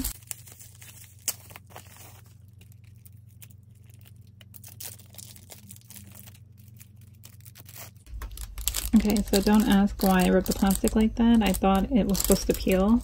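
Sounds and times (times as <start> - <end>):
shrink-wrap tearing and crinkling: 0.0 - 13.0.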